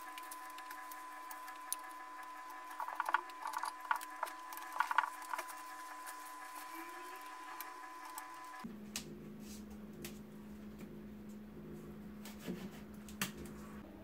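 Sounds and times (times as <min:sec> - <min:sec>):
faint steady whine: 0:00.0 - 0:12.2.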